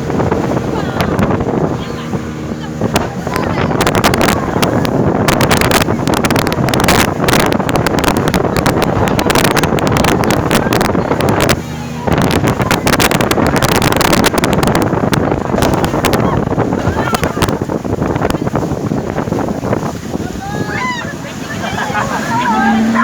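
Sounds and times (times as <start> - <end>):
motorboat engine: 0.0 - 23.0
wind buffeting microphone: 0.0 - 23.0.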